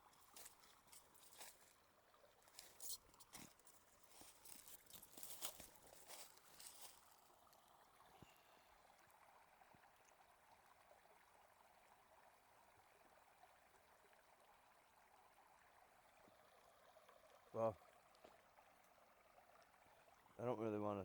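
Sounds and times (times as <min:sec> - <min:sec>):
creek babbling: 0:00.0 - 0:21.0.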